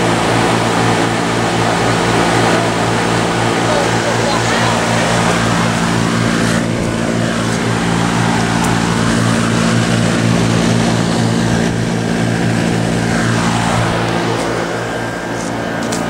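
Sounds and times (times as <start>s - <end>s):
fan air rush: 0.0s - 16.0s
heat pump compressor hum: 0.0s - 16.0s.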